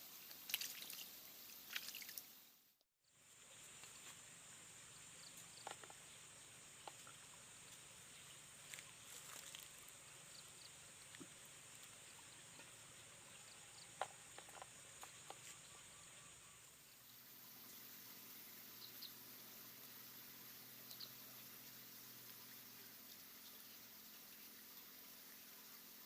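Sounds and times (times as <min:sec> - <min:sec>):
faint steady hum: 0:00.0 - 0:26.0
faint insect buzzing: 0:03.1 - 0:26.0.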